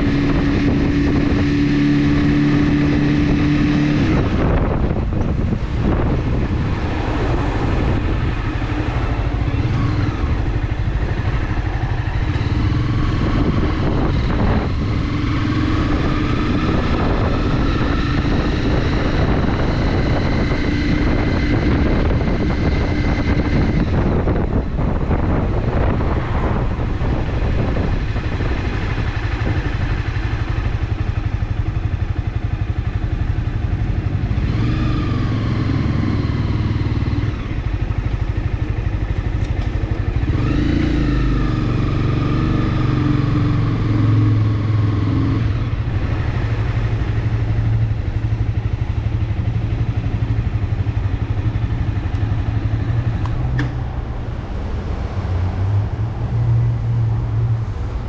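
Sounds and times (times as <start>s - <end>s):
motorcycle engine running: 0.0s - 54.8s
road noise: 0.0s - 58.0s
rushing wind: 0.0s - 58.0s.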